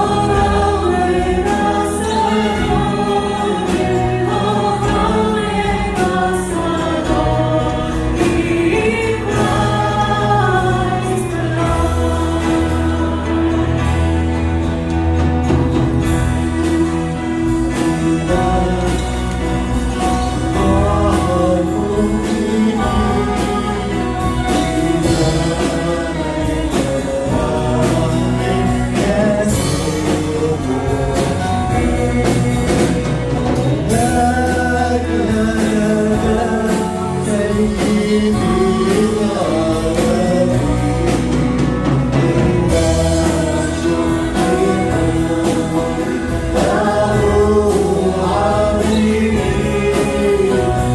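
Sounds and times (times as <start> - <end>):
bass line: 0.0 - 50.9
group singing: 0.0 - 50.9.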